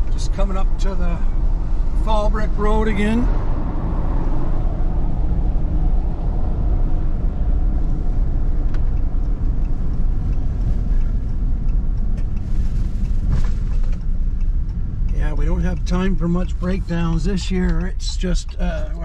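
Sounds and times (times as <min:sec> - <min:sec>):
vehicle engine and tyre noise: 0:00.0 - 0:19.0.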